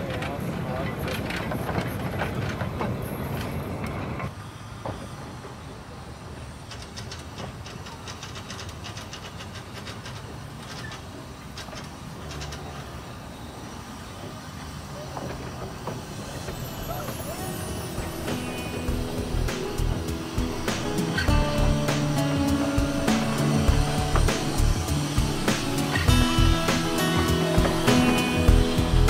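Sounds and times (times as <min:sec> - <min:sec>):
train wheels clicking over track: 0:00.0 - 0:29.0
soft hiss of steam: 0:03.0 - 0:29.0.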